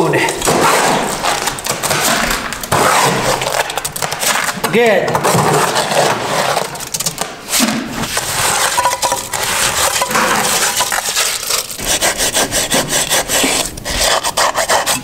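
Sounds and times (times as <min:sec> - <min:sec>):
hand tool scraping concrete: 0:00.2 - 0:15.0.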